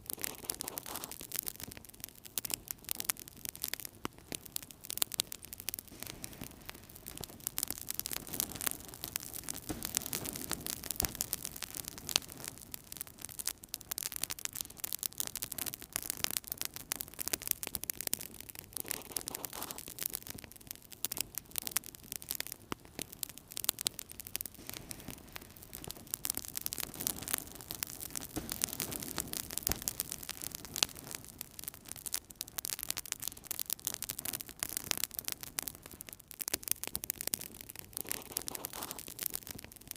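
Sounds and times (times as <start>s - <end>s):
wood fire crackling: 0.0s - 39.9s
flames rushing: 0.1s - 1.7s, 2.3s - 35.7s, 37.2s - 39.8s.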